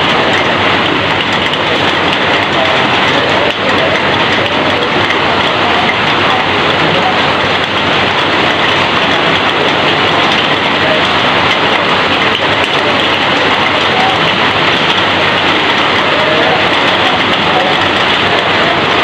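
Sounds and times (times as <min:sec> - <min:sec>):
heavy rain on a corrugated roof: 0:00.0 - 0:19.0.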